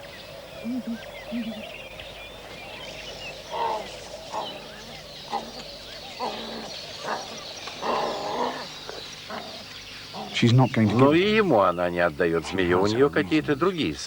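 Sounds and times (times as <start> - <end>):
hornbills giving low calls: 0.0 - 14.0
insects chirring: 0.0 - 14.0.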